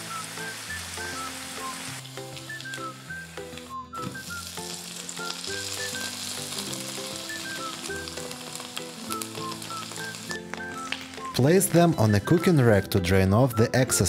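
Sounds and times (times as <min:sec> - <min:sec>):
oil sizzling in a skillet: 0:00.0 - 0:12.6.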